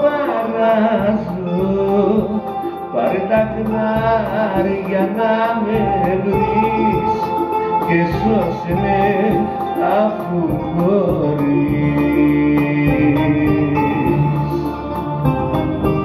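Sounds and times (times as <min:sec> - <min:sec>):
man singing into a microphone: 0:00.0 - 0:15.3
bouzouki: 0:00.0 - 0:16.0
synthesizer over a beat: 0:00.0 - 0:16.0.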